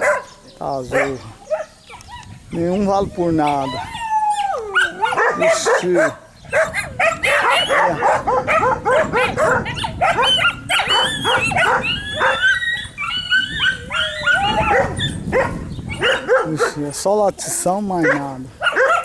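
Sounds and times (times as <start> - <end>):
dogs barking and yelping: 0.0 - 19.0.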